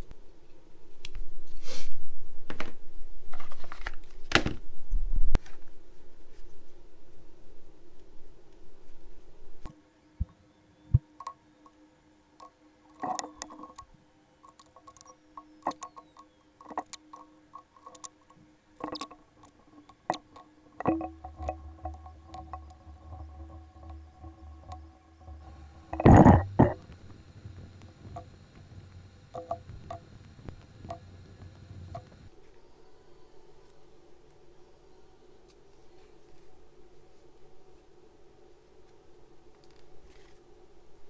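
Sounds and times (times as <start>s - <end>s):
faint steady hum: 4.6s - 41.0s.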